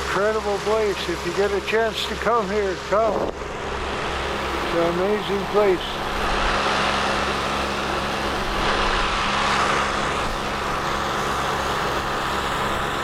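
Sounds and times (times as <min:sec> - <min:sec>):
boat motors humming: 0:00.0 - 0:13.0
water rushing: 0:00.0 - 0:13.0.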